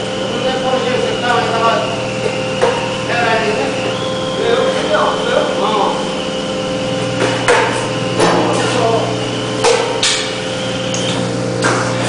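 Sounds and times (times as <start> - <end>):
metal cutting machine humming: 0.0 - 12.0.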